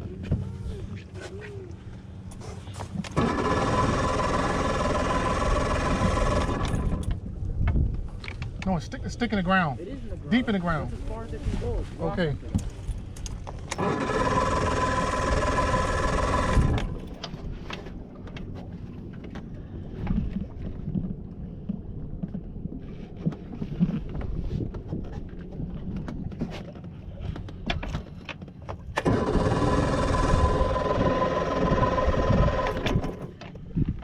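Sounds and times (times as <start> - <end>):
boat motor and wind noise: 0.0 - 34.0.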